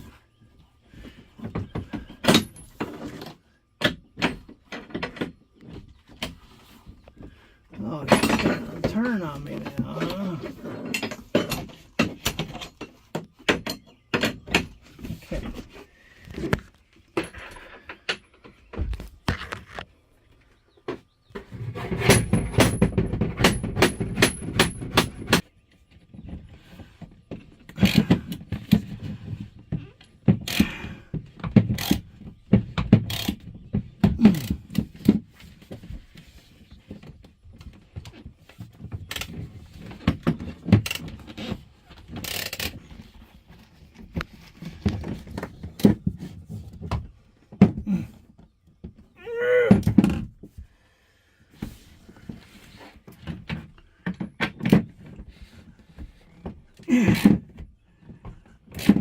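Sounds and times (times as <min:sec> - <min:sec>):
tools thunking and scraping: 0:01.0 - 0:19.8, 0:20.8 - 0:50.6.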